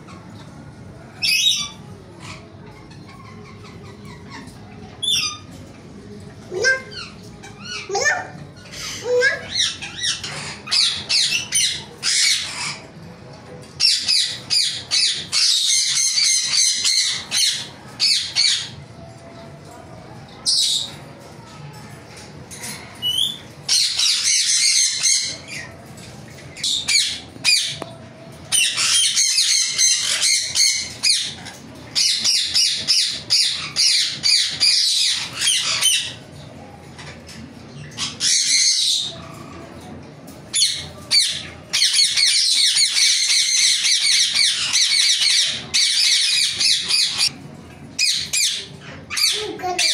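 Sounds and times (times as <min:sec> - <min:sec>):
parakeets squawking: 0:00.0 - 0:05.8, 0:06.4 - 0:19.1, 0:20.4 - 0:21.4, 0:22.1 - 0:49.9.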